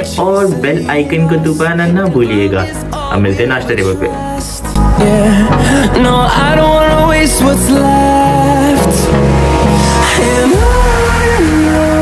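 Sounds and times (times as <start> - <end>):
bass line: 0.0 - 12.0.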